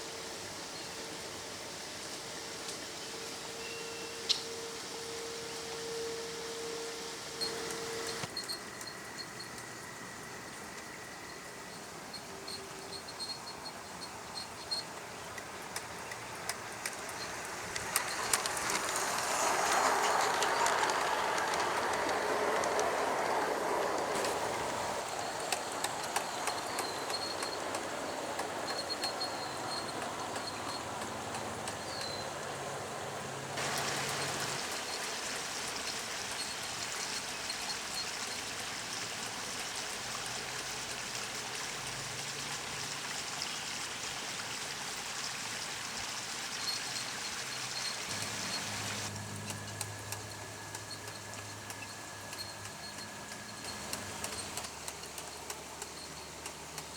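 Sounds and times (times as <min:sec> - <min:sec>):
steady rushing hiss: 0:00.0 - 0:56.9
model train wheels rumbling: 0:04.4 - 0:56.9.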